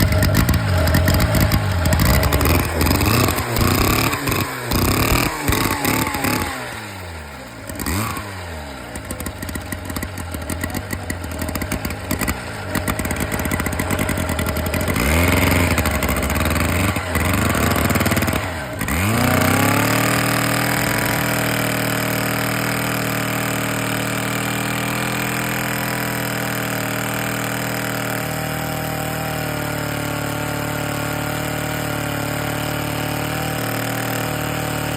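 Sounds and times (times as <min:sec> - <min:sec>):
chainsaw revving and idling: 0:00.0 - 0:34.9.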